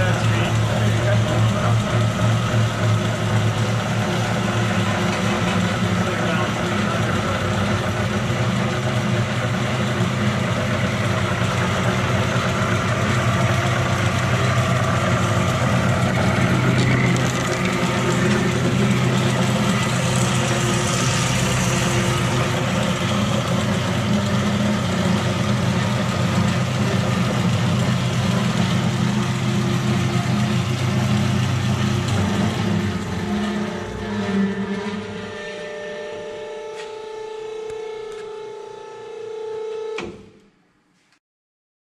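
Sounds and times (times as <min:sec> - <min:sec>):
band saw motor humming: 0:00.0 - 0:39.9.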